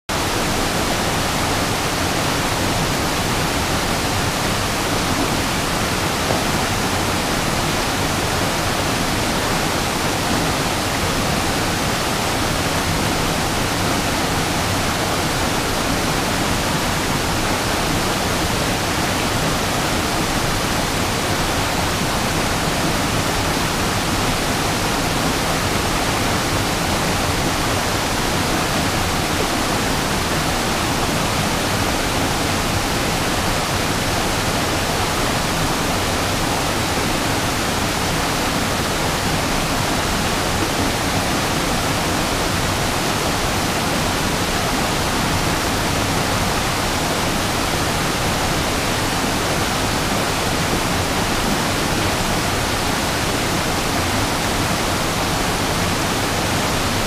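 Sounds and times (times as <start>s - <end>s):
waterfall: 0.0s - 57.0s
whitewater rushing over boulders: 0.1s - 57.0s.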